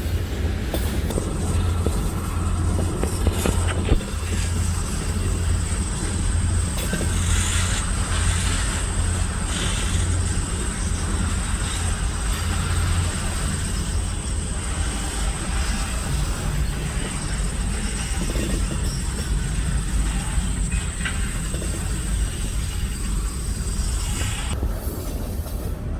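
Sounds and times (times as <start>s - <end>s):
diesel locomotive engine drone: 0.0s - 25.9s.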